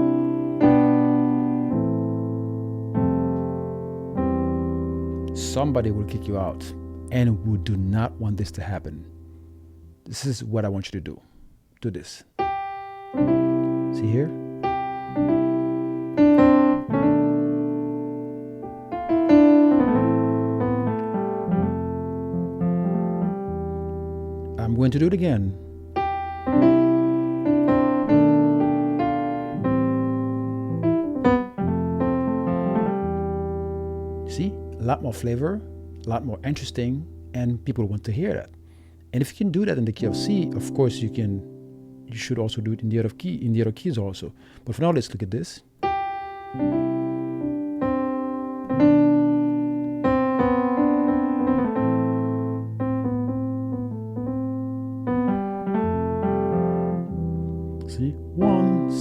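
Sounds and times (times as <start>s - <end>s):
gospel piano chords: 0.0s - 10.3s, 12.4s - 59.0s.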